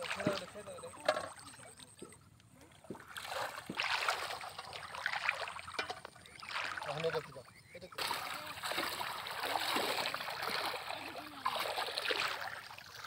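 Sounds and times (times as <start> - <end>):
shallow water sloshing: 0.0 - 13.0.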